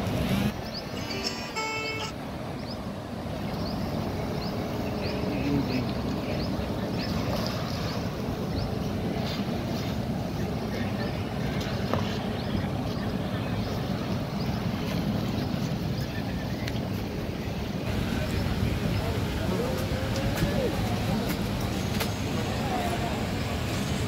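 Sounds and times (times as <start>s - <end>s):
vehicles driving past: 0.0s - 24.0s.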